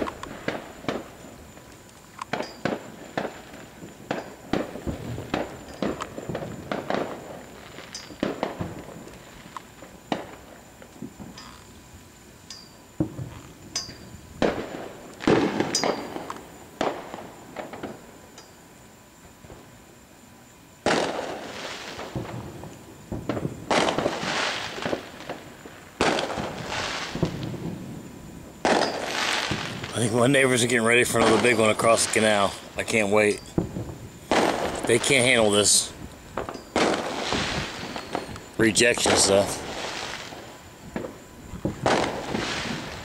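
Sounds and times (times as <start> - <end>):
firework bangs and pops: 0.0 - 11.7, 13.0 - 18.2, 20.8 - 43.0.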